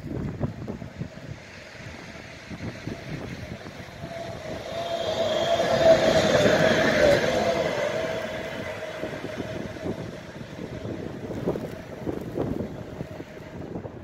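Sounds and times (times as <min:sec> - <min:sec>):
electric locomotive passing: 0:00.0 - 0:14.0.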